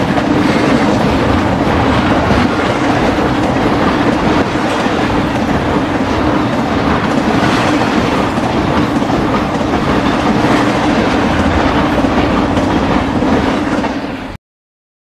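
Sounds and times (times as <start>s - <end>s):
freight train wheels on rails: 0.0s - 14.4s.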